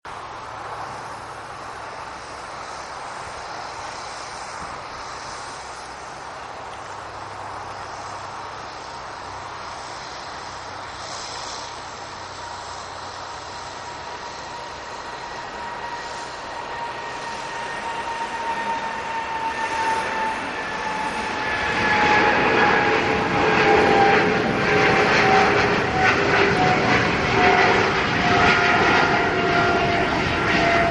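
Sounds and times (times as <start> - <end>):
jet engines roaring at takeoff: 0.1 - 30.9.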